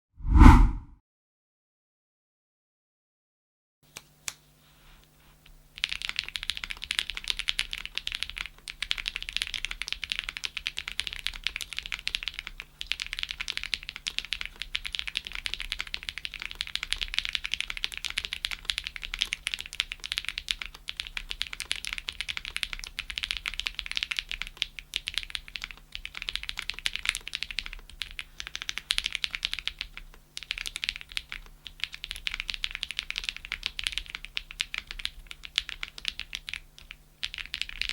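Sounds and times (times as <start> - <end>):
fast typing on mechanical keyboard: 5.8 - 37.9.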